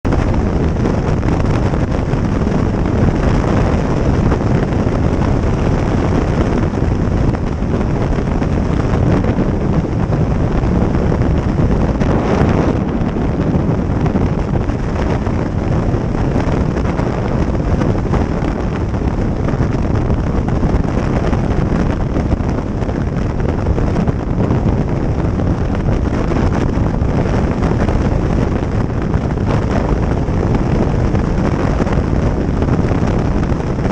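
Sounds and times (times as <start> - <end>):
road and engine noise: 0.0 - 33.9
wind buffeting microphone: 0.0 - 33.9.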